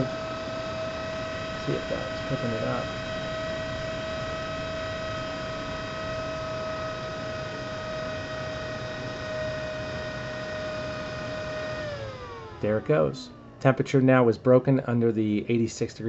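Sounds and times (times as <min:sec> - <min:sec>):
cooling fan whining: 0:00.0 - 0:16.0.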